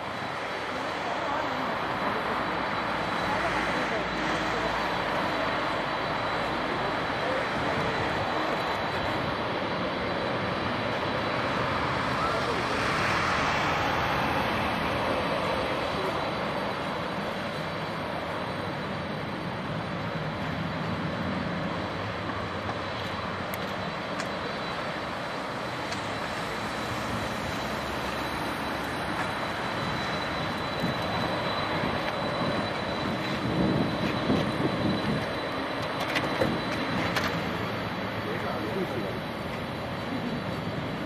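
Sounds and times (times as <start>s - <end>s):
high engine whine: 0.0s - 41.0s
jet engines hissing: 0.0s - 41.0s.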